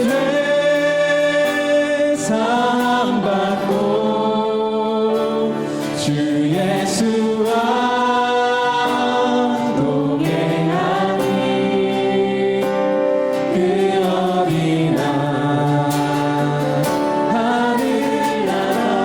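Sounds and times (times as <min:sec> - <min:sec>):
group singing a hymn: 0:00.0 - 0:19.0.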